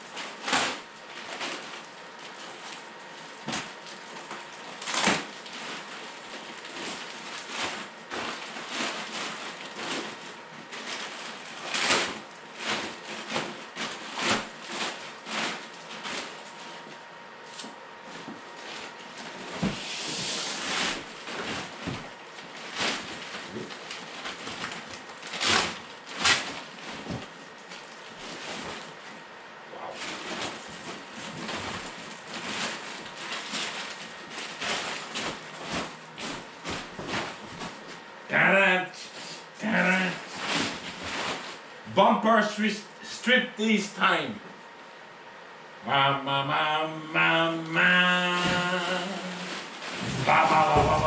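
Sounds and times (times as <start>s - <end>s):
packaging rustling and crinkling: 0.0s - 29.3s, 29.9s - 38.2s, 39.2s - 41.8s, 47.8s - 51.0s.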